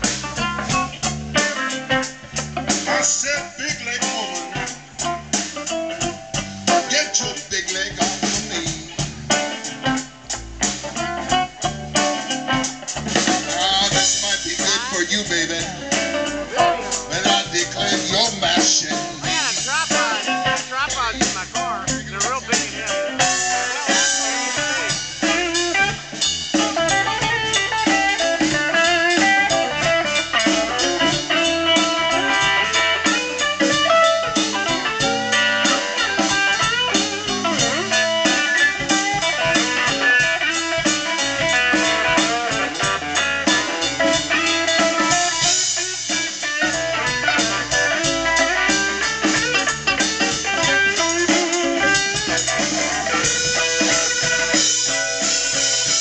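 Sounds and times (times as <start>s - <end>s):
blues band playing instrumental: 0.0s - 56.0s.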